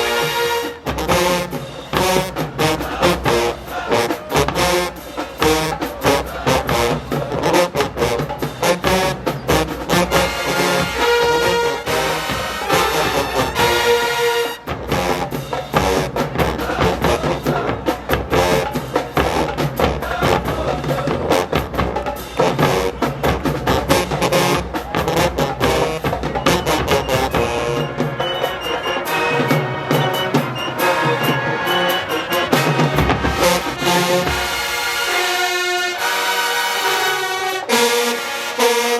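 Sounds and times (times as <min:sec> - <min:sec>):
snare and bass drums beat: 0:00.0 - 0:35.6
brass chords: 0:00.0 - 0:38.9
marching band playing: 0:00.0 - 0:38.9.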